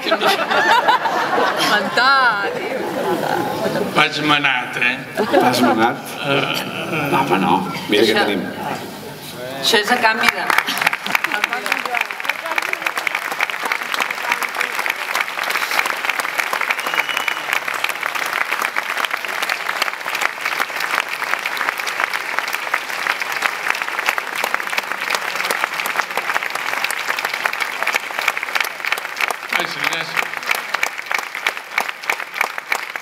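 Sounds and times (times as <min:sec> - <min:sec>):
crowd applauding: 0:00.0 - 0:04.1, 0:09.7 - 0:33.0.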